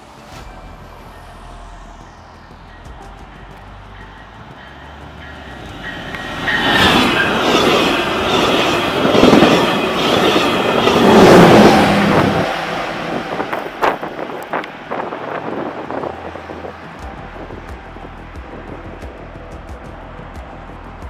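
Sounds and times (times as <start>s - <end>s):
train wheels on rail: 2.1s - 20.6s.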